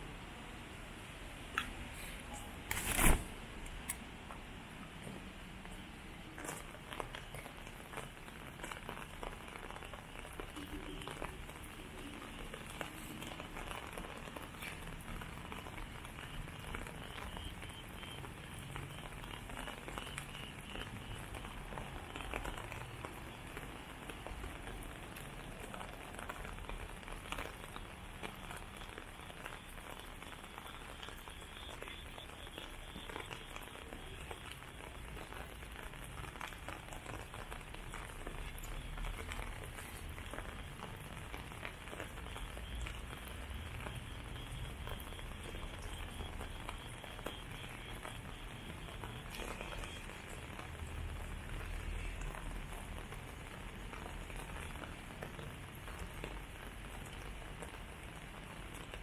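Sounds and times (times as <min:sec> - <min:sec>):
rain on wet paving and plants: 0:00.0 - 0:59.0.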